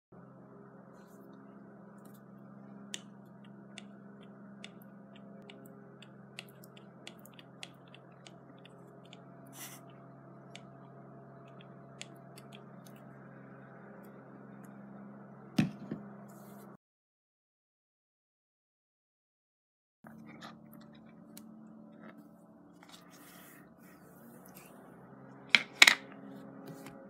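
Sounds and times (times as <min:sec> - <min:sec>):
steady low hum: 0:00.2 - 0:16.8, 0:20.1 - 0:27.0.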